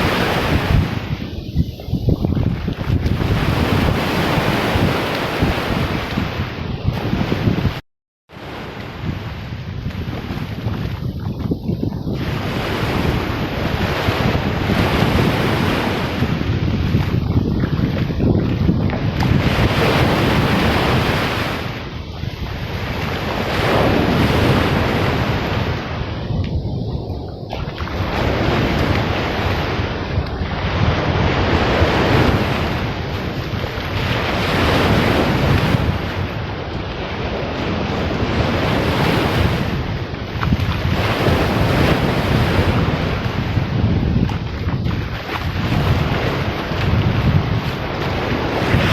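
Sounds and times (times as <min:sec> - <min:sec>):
surf washing: 0:00.0 - 0:48.9
wind buffeting microphone: 0:00.0 - 0:48.9.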